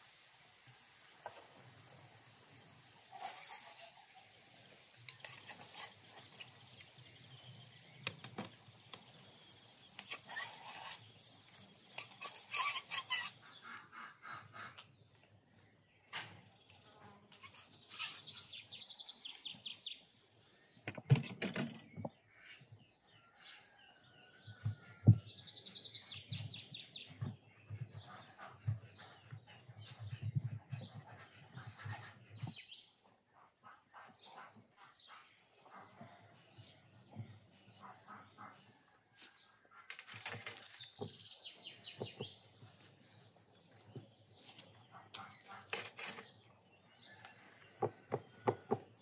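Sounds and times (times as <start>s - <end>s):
birds chirping: 0.5s - 23.8s, 24.6s - 49.0s.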